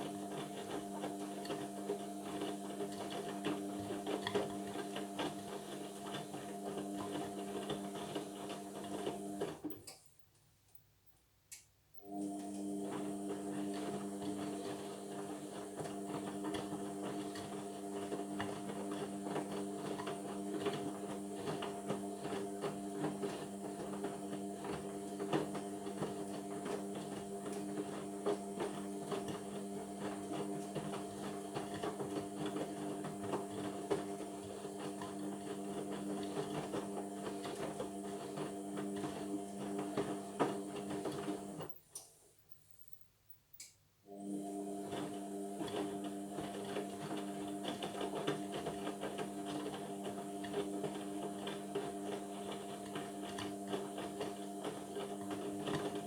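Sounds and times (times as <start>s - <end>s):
washing machine motor whirring: 0.0s - 9.8s, 12.0s - 41.8s, 44.1s - 56.0s.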